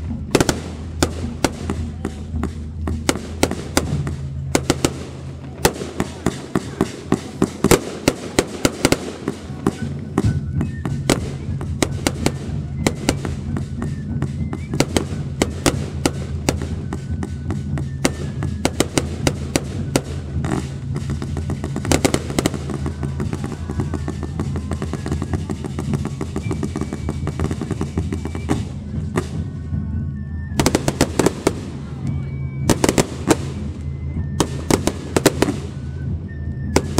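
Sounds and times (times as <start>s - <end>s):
low rumble: 0.0s - 36.8s
fireworks crackling: 0.0s - 36.9s
fireworks heavy bangs: 0.0s - 36.9s.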